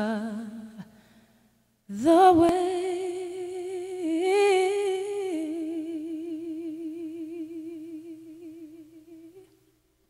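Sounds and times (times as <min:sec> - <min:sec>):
person singing with vibrato: 0:00.0 - 0:01.0, 0:01.9 - 0:09.7.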